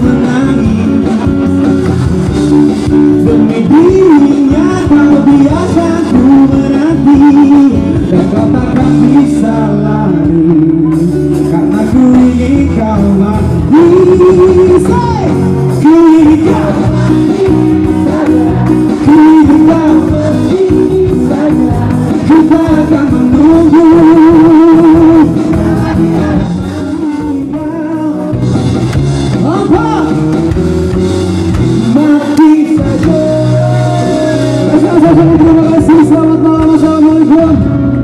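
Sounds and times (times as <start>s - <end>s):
male singer: 0.0s - 30.4s, 31.5s - 38.0s
electric and acoustic guitars: 0.0s - 38.0s.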